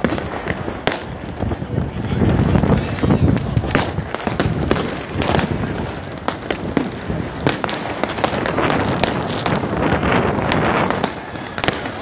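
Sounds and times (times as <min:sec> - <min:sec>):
continuous background noise: 0:00.0 - 0:12.0
fireworks and firecrackers banging: 0:00.0 - 0:12.0.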